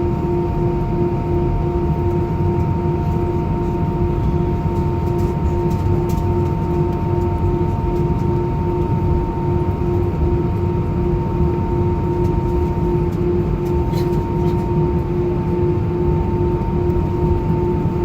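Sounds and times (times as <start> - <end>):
jet engine cabin hum: 0.0 - 18.0.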